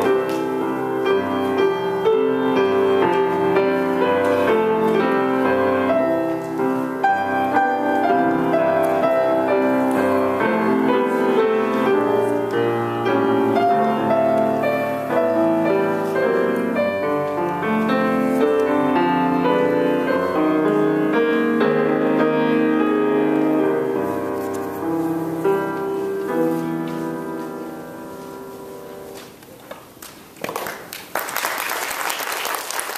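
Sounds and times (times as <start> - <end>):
grand piano chords: 0.0 - 29.6.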